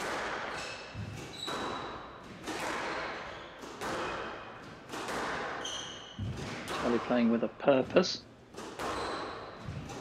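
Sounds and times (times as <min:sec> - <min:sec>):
squash ball strikes: 0:00.0 - 0:10.0
shoes squeaking on court floor: 0:00.4 - 0:07.0, 0:07.8 - 0:10.0.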